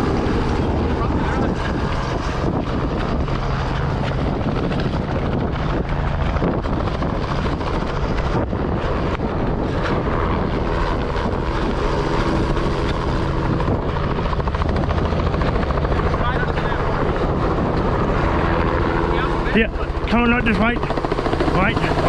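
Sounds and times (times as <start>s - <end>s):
helicopter rotor beat: 0.0s - 22.0s
wind buffeting microphone: 0.0s - 22.0s.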